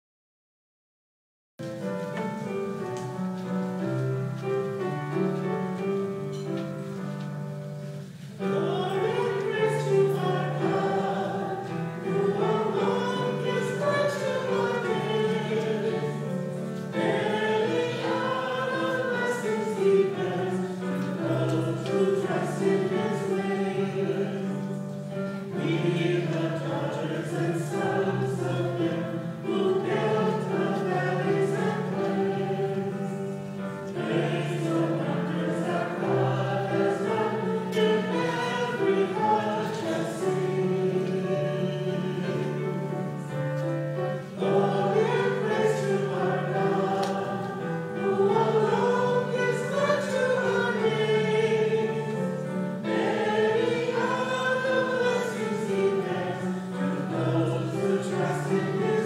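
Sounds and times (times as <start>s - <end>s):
keyboard accompaniment: 1.6s - 59.0s
voices singing a hymn: 1.7s - 59.0s.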